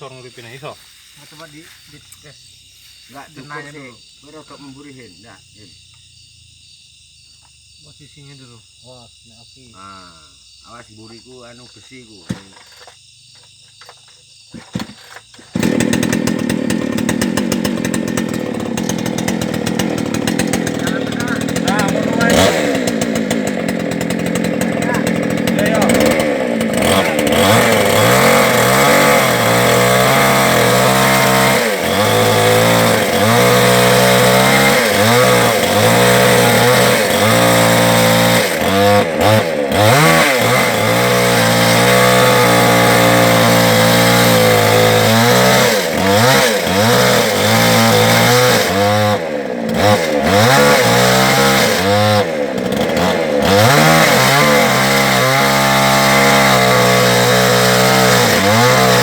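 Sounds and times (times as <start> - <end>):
chainsaw cutting wood: 0.0 - 5.2, 11.9 - 59.0.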